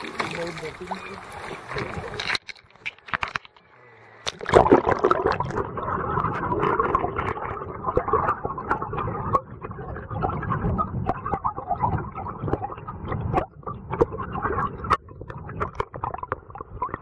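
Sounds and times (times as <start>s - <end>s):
small water splashes: 0.0s - 3.6s, 4.2s - 17.0s
water sloshing and gurgling: 0.0s - 17.0s.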